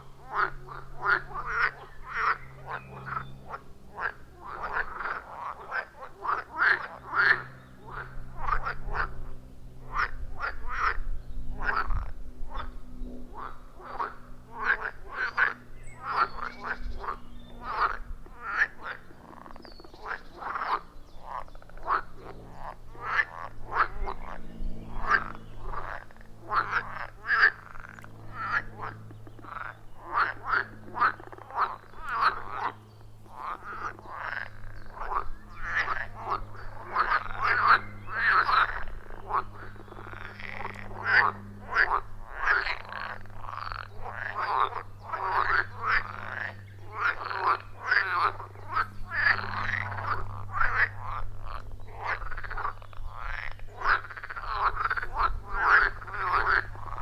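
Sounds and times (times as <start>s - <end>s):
frogs croaking: 0.0s - 57.0s
steady low drone: 0.0s - 57.0s.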